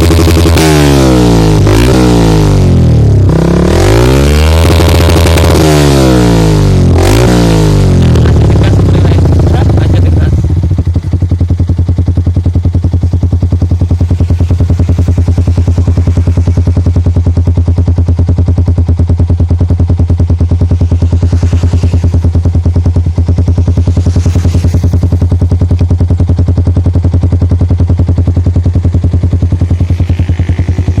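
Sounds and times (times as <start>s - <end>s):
motorcycle engine idling: 0.0s - 3.8s, 4.5s - 31.0s.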